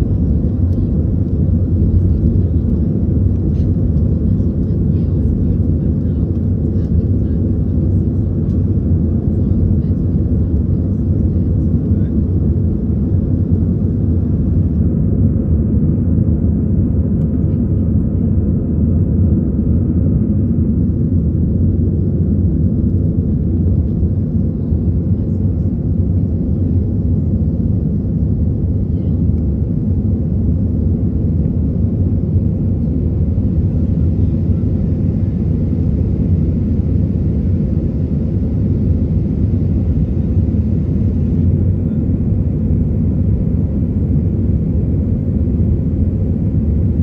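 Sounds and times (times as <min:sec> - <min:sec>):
jet engine and airflow rumble: 0:00.0 - 0:47.0.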